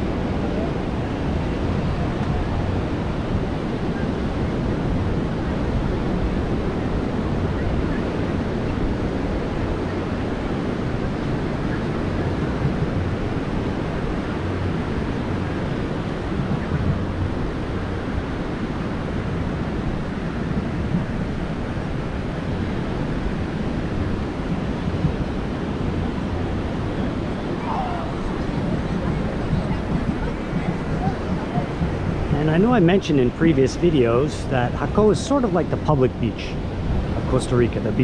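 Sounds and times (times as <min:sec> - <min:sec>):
ocean surf breaking: 0:00.0 - 0:38.0
wind on microphone: 0:00.0 - 0:38.0.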